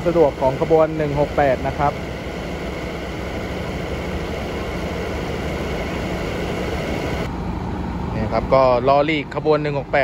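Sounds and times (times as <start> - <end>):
diesel railcar idling: 0.0 - 10.0.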